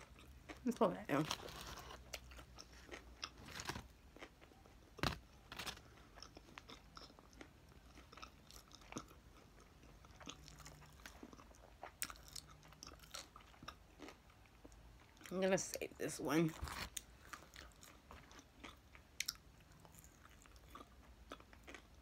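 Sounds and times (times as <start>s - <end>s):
person chewing food: 0.0s - 15.3s, 16.6s - 22.0s.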